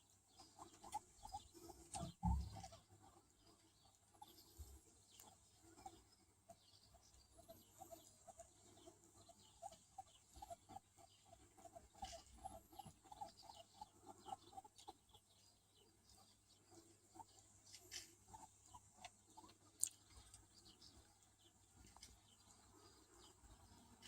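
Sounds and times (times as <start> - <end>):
animal clucking calls: 0.0 - 15.4, 16.1 - 21.2.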